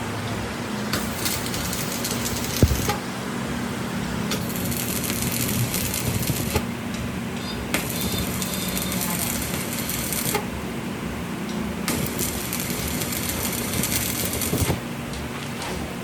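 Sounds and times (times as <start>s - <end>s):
machine motor running: 0.7s - 14.9s.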